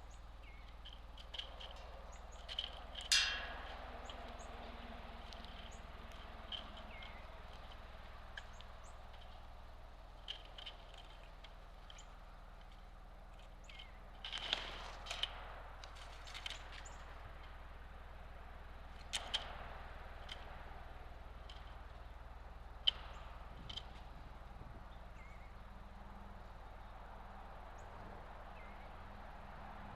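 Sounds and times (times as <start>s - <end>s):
bird chips and clicks: 0.0s - 17.7s, 18.7s - 27.0s.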